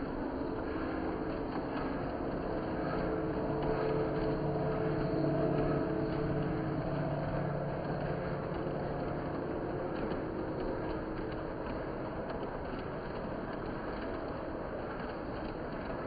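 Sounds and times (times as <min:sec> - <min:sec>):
rolling wheel noise: 0:00.0 - 0:16.0.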